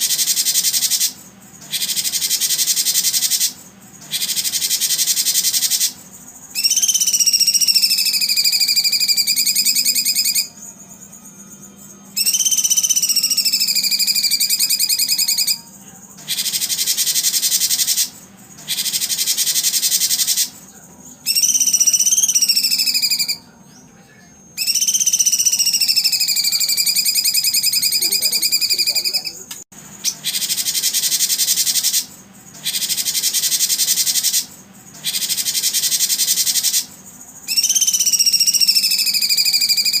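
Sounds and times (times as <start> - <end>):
fast-pulsed bird trills: 0.0 - 23.5, 24.6 - 40.0
high buzzing insect calls: 0.0 - 23.5, 24.6 - 40.0.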